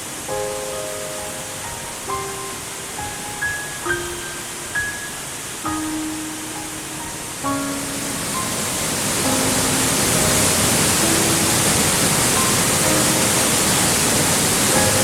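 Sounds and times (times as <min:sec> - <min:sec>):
soft background music: 0:00.0 - 0:15.0
waterfall and stream rushing: 0:00.0 - 0:15.0.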